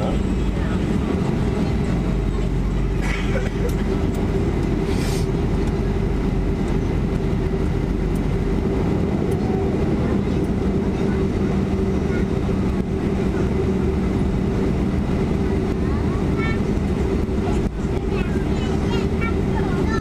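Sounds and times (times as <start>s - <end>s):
jet engines droning: 0.0s - 20.0s.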